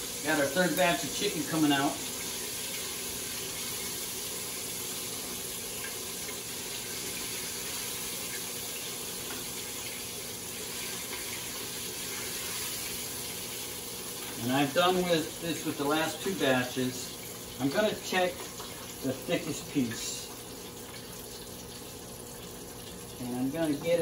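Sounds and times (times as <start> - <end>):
oil sizzling while deep-frying: 0.0 - 24.0.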